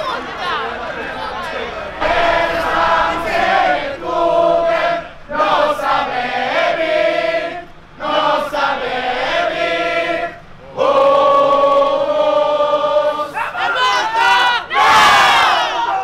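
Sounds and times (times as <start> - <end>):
crowd chanting a song: 0.0 - 15.9.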